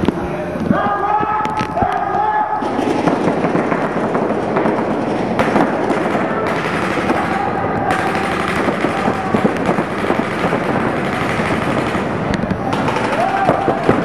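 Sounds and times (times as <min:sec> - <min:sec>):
paintball guns firing rapidly: 0:02.6 - 0:14.0.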